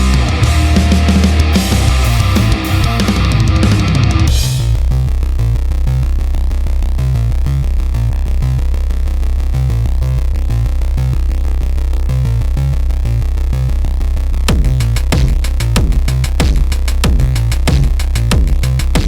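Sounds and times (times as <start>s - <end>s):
electronic music with deep bass: 0.0s - 19.0s.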